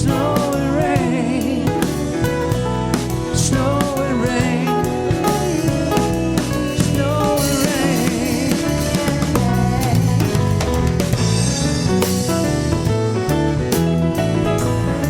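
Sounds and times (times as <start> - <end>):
instrumental band playing: 0.0 - 15.0.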